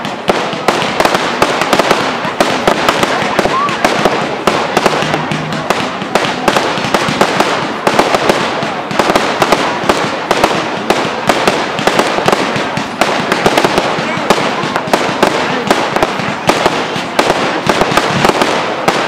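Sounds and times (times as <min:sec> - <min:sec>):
firework bangs: 0:00.0 - 0:19.0
fireworks crackling: 0:00.0 - 0:19.0.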